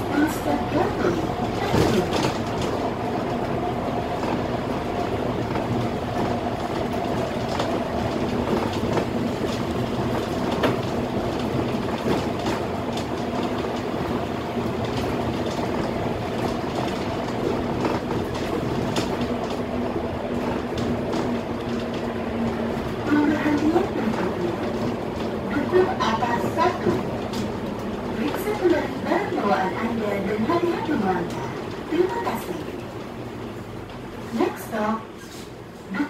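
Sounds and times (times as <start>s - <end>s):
rattles and knocks of bus body: 0.0s - 29.2s
road noise: 0.0s - 36.0s.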